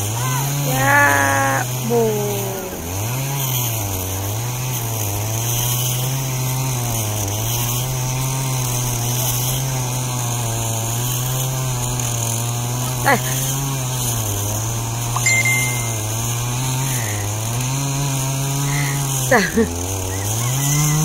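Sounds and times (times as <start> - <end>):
small boat engine running: 0.0 - 21.0.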